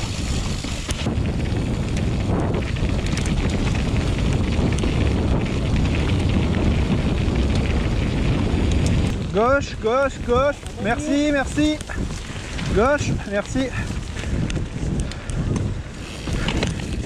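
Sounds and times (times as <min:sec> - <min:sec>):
bike clicks and rattles: 0:00.0 - 0:17.0
tyre noise on trail: 0:00.0 - 0:17.0
wind buffeting microphone: 0:00.0 - 0:17.0.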